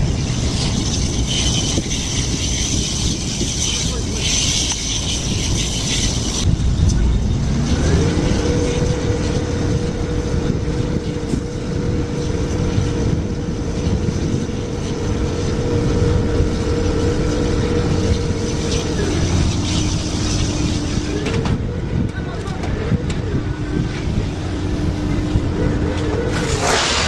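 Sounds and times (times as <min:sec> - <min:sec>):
engine running at high revs: 0:00.0 - 0:27.0
heavy low rumble: 0:00.0 - 0:27.0.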